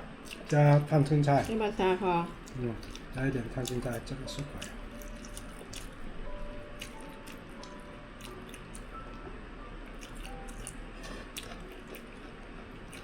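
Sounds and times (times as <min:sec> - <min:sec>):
people chewing with mouth smacks: 0:00.0 - 0:01.6, 0:02.4 - 0:09.2, 0:09.8 - 0:13.0
soft background music: 0:00.0 - 0:13.0.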